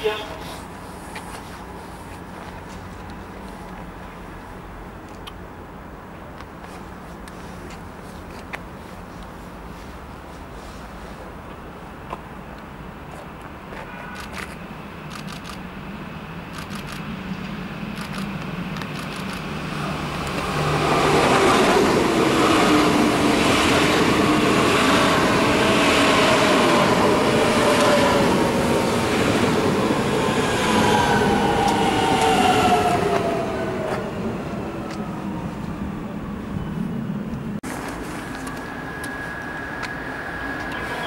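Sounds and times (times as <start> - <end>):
train passing on rails: 0.0 - 41.0.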